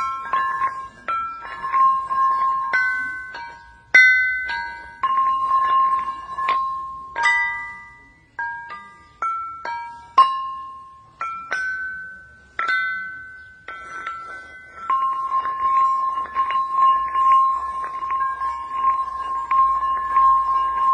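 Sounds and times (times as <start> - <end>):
lithophone stones ringing: 0.0 - 20.9.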